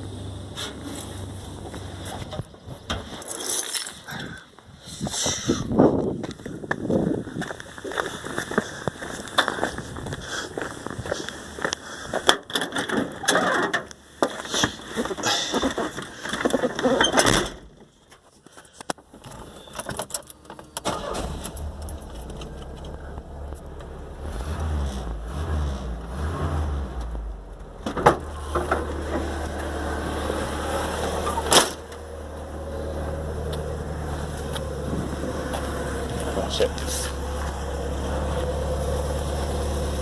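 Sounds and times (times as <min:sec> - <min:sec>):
truck engine rumbling: 0:00.0 - 0:40.0.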